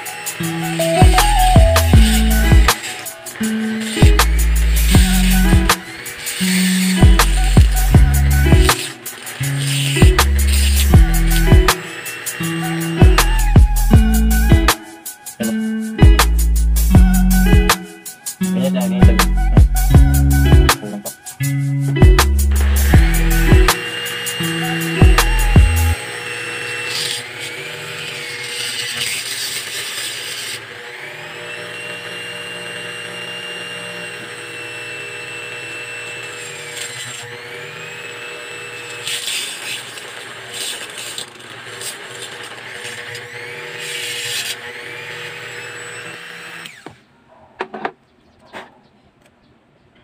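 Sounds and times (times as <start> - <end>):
rotary tool motor running: 0.0 - 15.6, 22.5 - 47.0
bit grinding metal: 0.0 - 47.0.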